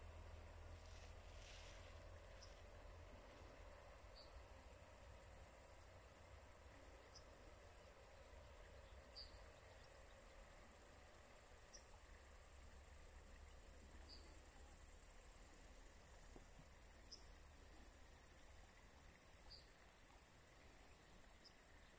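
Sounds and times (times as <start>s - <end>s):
crickets chirring: 0.0s - 21.9s.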